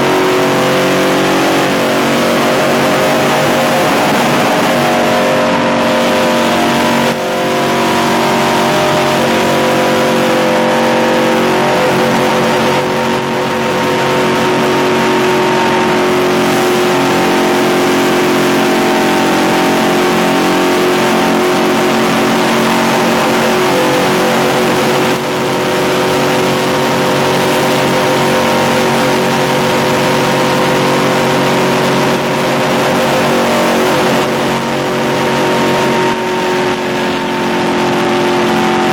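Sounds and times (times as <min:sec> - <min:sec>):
race truck engine at high revs: 0:00.0 - 0:38.9.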